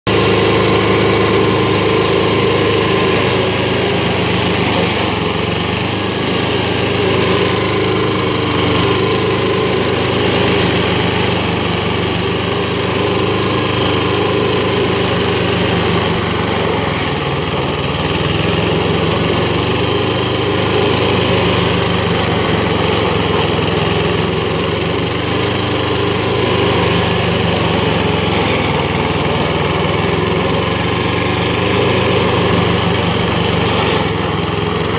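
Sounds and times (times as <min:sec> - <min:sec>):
cutter wheel grinding wood: 0:00.1 - 0:34.9
stump grinder engine running: 0:00.1 - 0:34.9.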